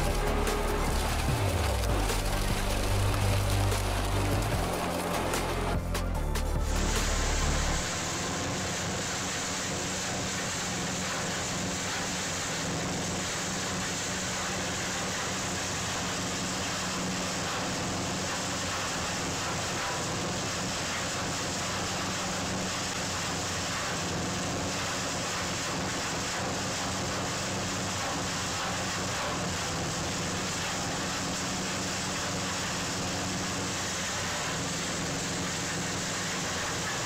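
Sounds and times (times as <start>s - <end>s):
heavy machinery engine running: 0.0s - 37.0s.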